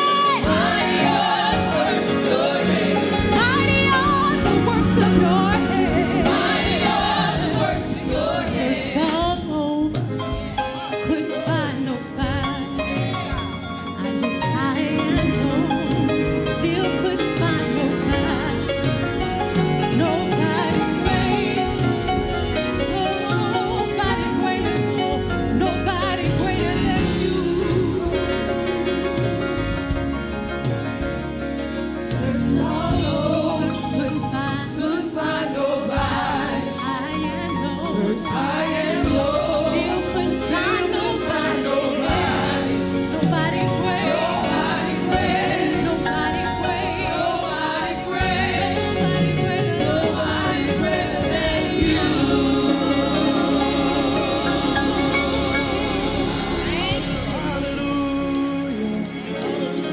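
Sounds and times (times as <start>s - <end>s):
lead vocalist singing: 0.0s - 30.0s, 32.0s - 59.9s
gospel choir singing: 0.0s - 59.9s
keyboard accompaniment: 0.0s - 59.9s.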